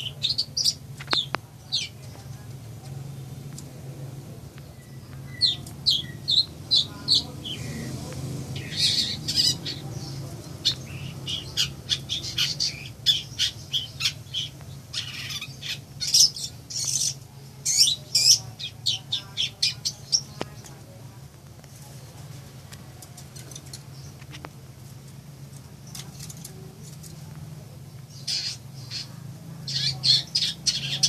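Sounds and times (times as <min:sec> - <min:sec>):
bird singing chirps: 0:00.0 - 0:03.6, 0:04.5 - 0:20.9, 0:25.8 - 0:31.0
steady low hum: 0:00.0 - 0:31.0.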